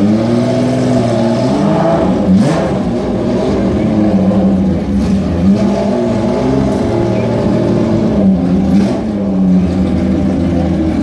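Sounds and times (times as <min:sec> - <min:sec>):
racing engine idling loudly: 0:00.0 - 0:11.0.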